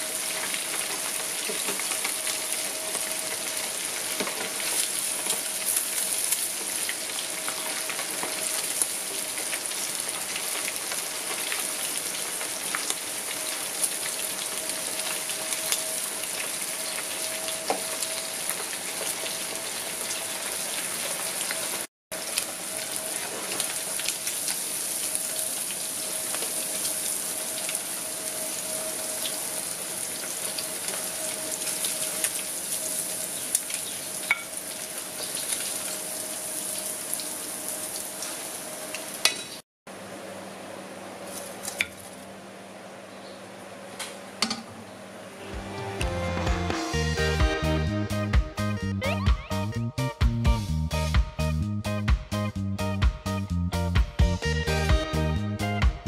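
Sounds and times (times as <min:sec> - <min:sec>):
meat deep-frying in hot oil: 0:00.0 - 0:45.4.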